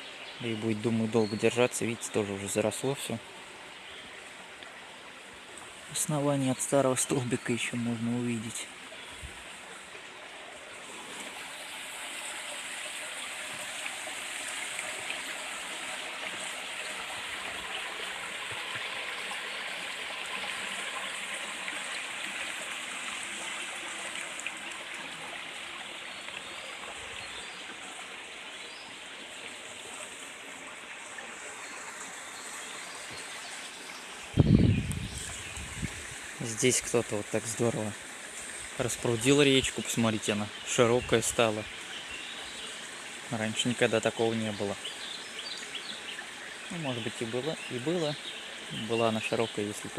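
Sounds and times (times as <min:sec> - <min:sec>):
river water rushing and babbling: 0:00.0 - 0:49.9.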